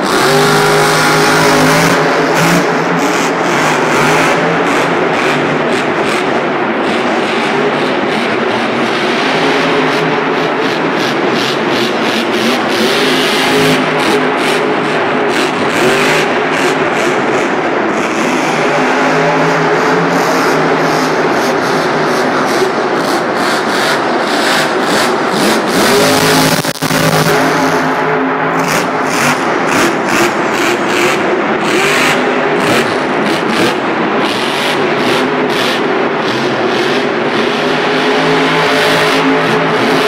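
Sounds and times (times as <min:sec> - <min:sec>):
truck engine revving hard: 0:00.0 - 0:40.0.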